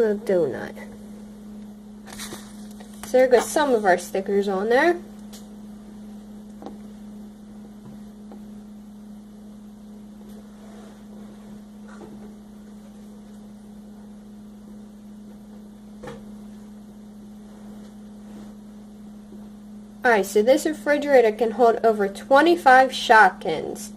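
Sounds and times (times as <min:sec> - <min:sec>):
steady electrical hum: 0:00.0 - 0:23.9.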